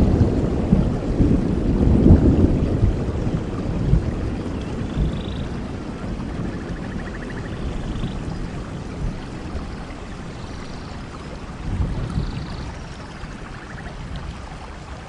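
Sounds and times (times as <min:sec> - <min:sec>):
falling water rushing: 0:00.0 - 0:15.0.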